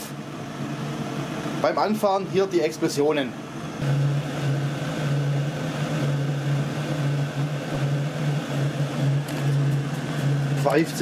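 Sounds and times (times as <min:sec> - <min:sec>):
diesel heater pulsing hum: 0:00.0 - 0:11.0.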